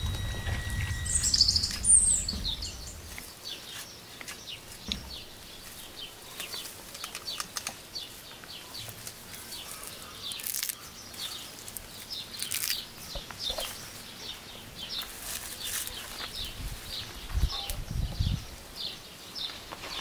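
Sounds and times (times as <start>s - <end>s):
soil and roots rustling: 0.0s - 17.9s
small birds chirping: 0.0s - 20.0s.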